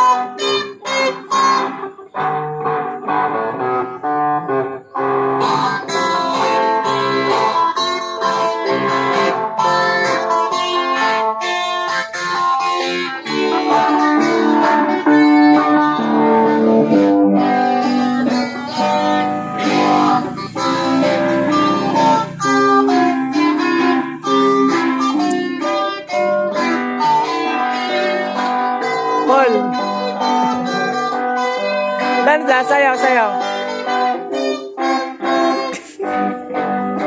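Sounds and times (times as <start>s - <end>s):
electric guitars playing: 0.0s - 37.0s.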